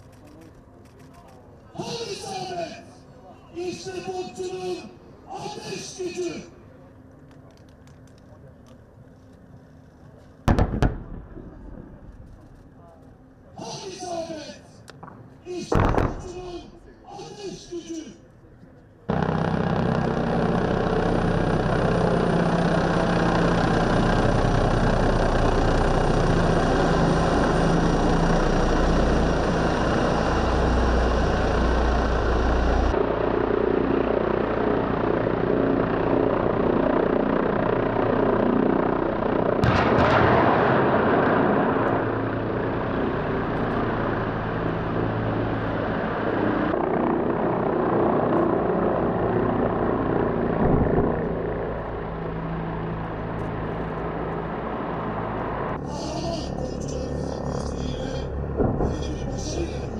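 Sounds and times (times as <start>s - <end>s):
helicopters flying over: 0.0s - 59.9s.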